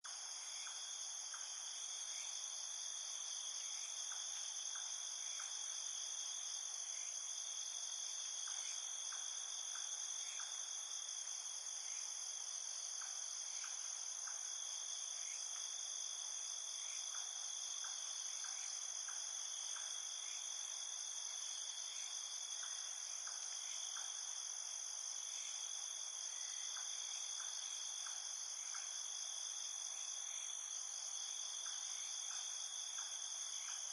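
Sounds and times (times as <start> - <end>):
crickets chirping: 0.0 - 33.9
faint scattered ticks: 0.0 - 33.9.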